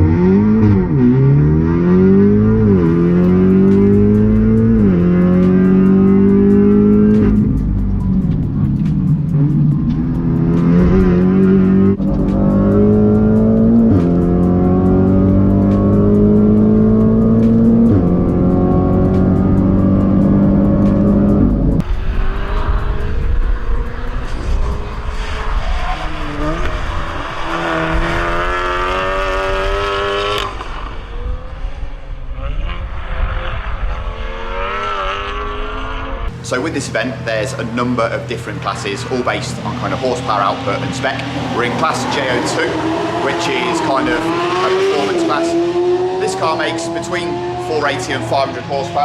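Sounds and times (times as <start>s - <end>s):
car engine accelerating hard: 0.0s - 49.0s
noisier engine rising and falling: 0.0s - 49.0s.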